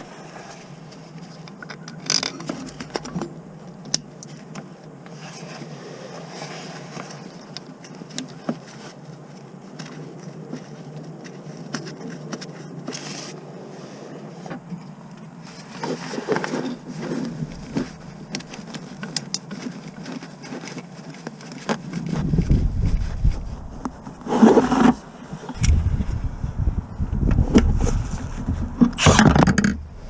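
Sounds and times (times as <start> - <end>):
light clicks and scraping: 0.0 - 13.5, 14.4 - 25.8.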